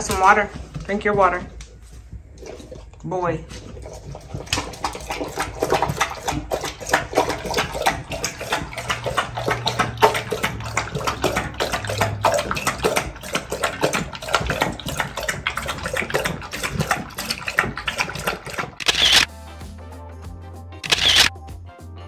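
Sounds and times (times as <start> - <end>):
dog lapping water from metal bowl: 0.0 - 19.3.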